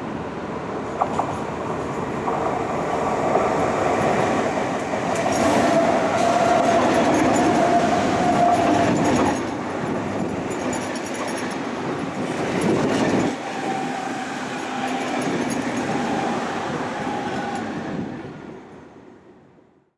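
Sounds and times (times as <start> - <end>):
train rumble and wheel noise: 0.0 - 19.8.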